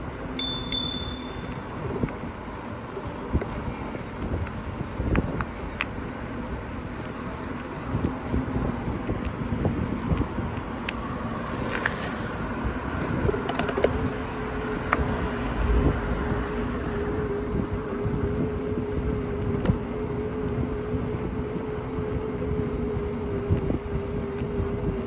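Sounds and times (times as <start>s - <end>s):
wind rumbling on the microphone: 0.0s - 25.0s.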